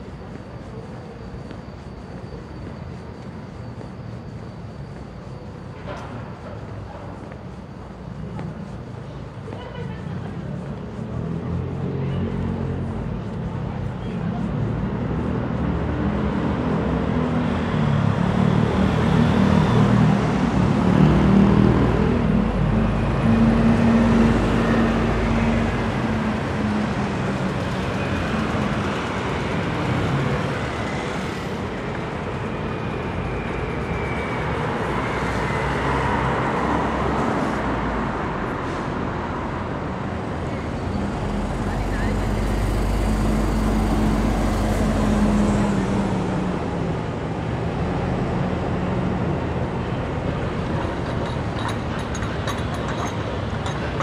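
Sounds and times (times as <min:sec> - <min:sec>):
road traffic hum: 0:00.0 - 0:54.0.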